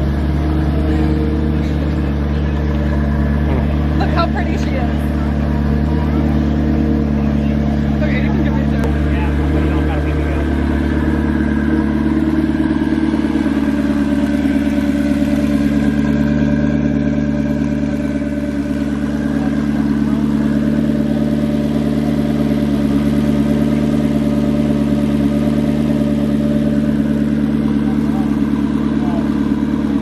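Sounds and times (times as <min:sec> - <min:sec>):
sports car engine idling: 0:00.0 - 0:30.0.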